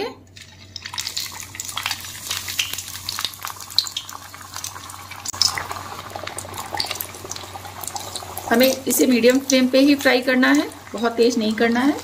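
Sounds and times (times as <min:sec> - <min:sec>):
crackles and pops of frying: 0:00.3 - 0:12.0
dough deep-frying in oil: 0:00.3 - 0:12.0.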